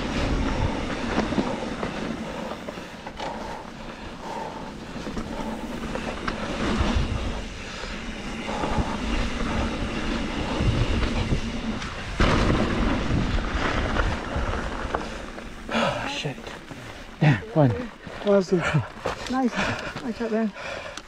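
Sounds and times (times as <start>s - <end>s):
wind buffeting microphone: 0.0s - 17.2s
bike tyres rumbling over dirt: 0.0s - 20.9s
bike rattling: 0.0s - 21.0s.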